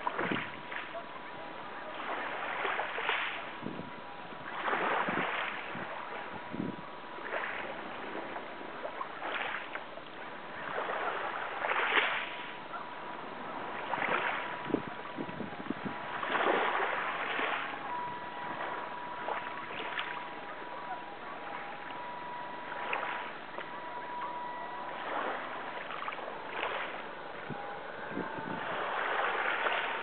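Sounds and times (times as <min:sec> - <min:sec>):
faint steady tone: 0:00.0 - 0:30.0
water splashing against boat hull: 0:00.0 - 0:30.0.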